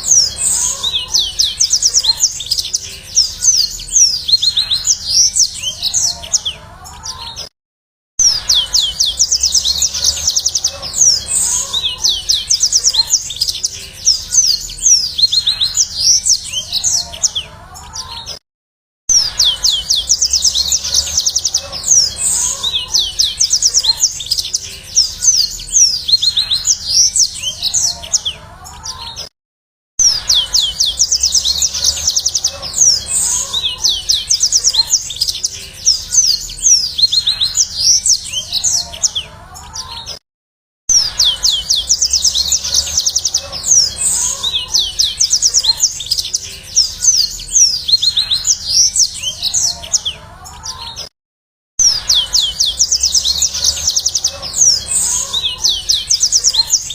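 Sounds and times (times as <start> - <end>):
canary singing trills and chirps: 0.0 - 7.5, 8.2 - 18.4, 19.1 - 29.3, 30.0 - 40.2, 40.9 - 51.1, 51.8 - 56.9.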